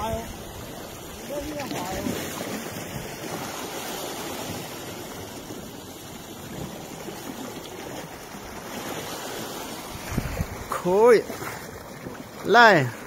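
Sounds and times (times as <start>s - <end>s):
waves washing over rocks: 0.0s - 13.0s.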